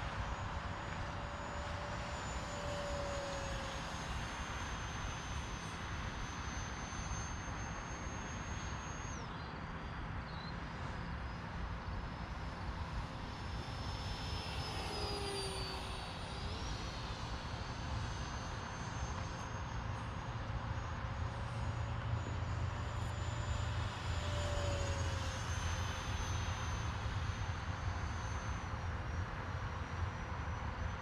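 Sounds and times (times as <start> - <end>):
model jet fan whine: 0.0 - 31.0.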